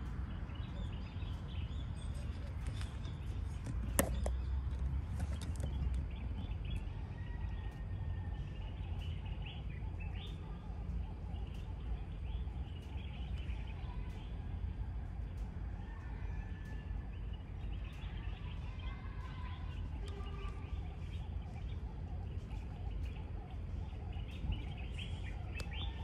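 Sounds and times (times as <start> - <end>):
birds chirping: 0.0 - 26.0
low rumble: 0.0 - 26.0.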